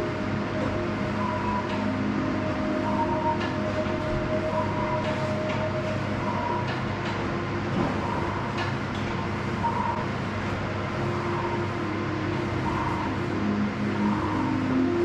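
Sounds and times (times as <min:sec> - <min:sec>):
floor fan air rushing: 0:00.0 - 0:15.0
soft sustained music tones: 0:00.0 - 0:15.0.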